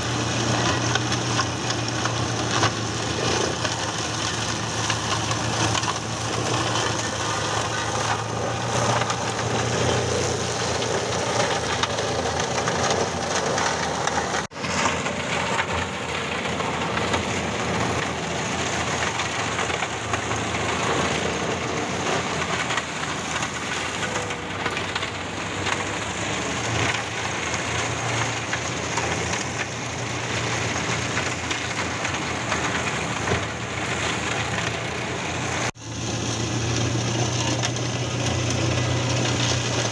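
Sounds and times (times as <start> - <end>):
tractor engine and shredding wood: 0.0 - 39.9.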